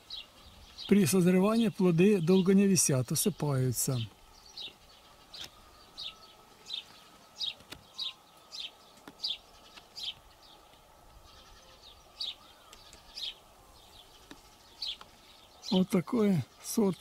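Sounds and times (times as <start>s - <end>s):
small bird calling: 0.0s - 1.2s, 2.1s - 17.0s.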